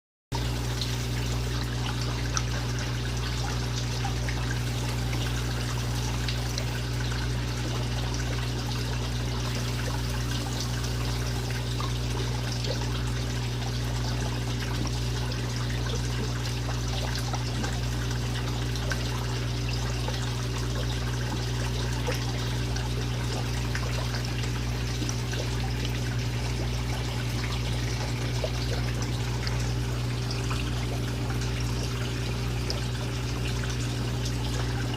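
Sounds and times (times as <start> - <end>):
aquarium water trickling: 0.3 - 34.9.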